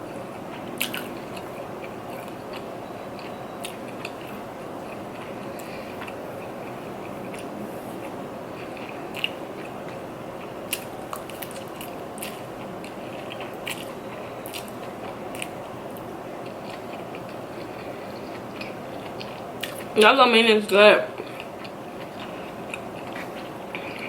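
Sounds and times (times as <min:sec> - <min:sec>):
steady background hiss: 0:00.0 - 0:24.0
wet chewing mouth clicks: 0:00.4 - 0:02.6, 0:03.2 - 0:20.0, 0:21.2 - 0:24.0.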